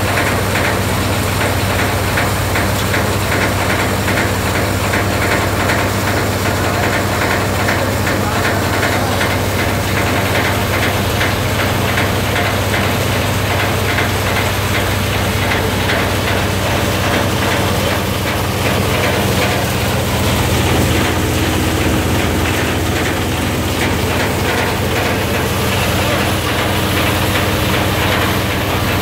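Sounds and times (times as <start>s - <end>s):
thresher running: 0.0s - 29.0s.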